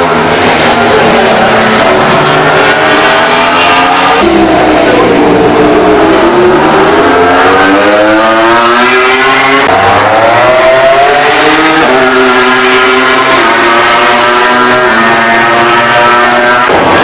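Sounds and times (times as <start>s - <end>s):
racing motorcycle engine accelerating: 0.0s - 17.0s.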